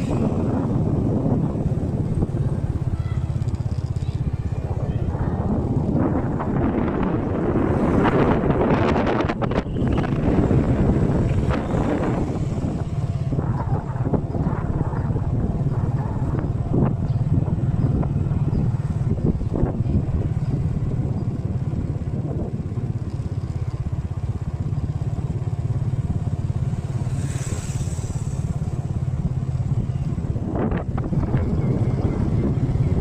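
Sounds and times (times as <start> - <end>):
motorbike engine cruising: 0.0 - 33.0
road and wind rumble: 0.0 - 33.0.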